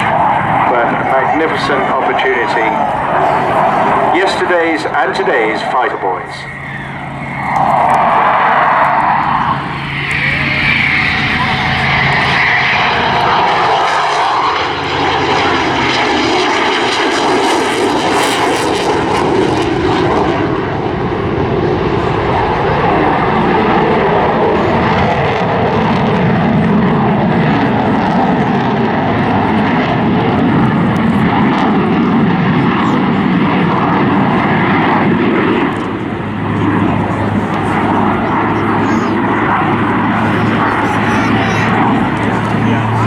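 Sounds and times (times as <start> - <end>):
jet engines roaring: 0.0 - 43.0
piston aircraft engine: 0.0 - 43.0.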